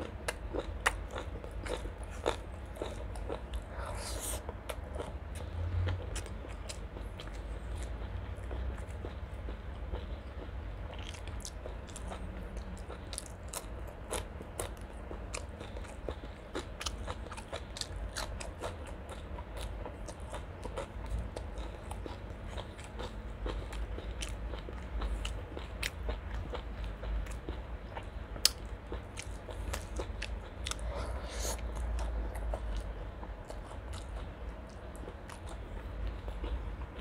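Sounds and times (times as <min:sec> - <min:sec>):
chewing with crisp crunches: 0:00.0 - 0:37.0.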